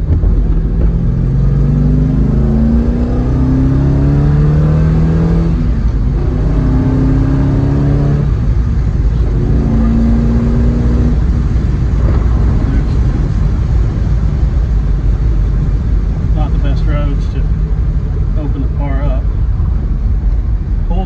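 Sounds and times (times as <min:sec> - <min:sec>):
car engine accelerating: 0:00.0 - 0:21.0
road and wind rumble: 0:00.0 - 0:21.0.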